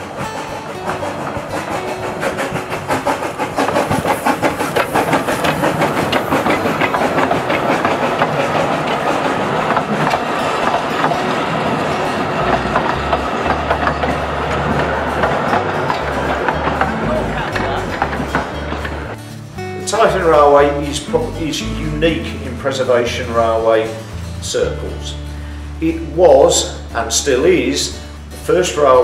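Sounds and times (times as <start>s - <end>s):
train wheels clicking over rail joints: 0.0s - 29.0s.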